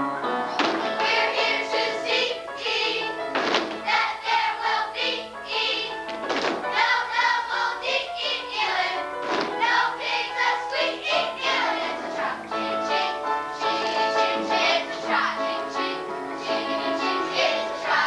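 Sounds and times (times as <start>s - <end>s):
musical accompaniment: 0.0s - 18.0s
children singing: 0.5s - 6.1s, 6.7s - 18.0s.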